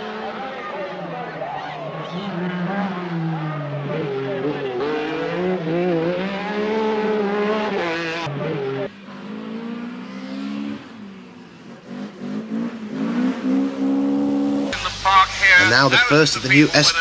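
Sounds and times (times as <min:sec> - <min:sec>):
rally car engine revving: 0:00.0 - 0:16.2.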